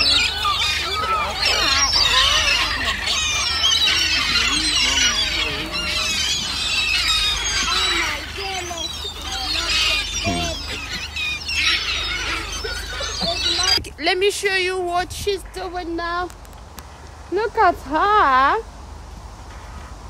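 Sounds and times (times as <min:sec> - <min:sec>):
gulls squealing and calling: 0:00.0 - 0:16.2.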